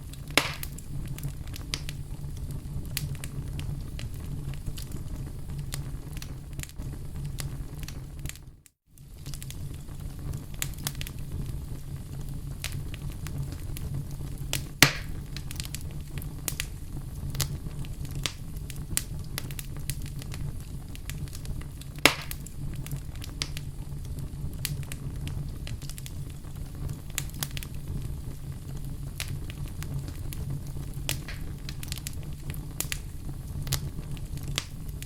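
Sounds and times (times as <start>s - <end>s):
loud sharp fire pops: 0.0s - 8.4s, 12.4s - 35.0s
log fire crackling: 0.0s - 35.0s.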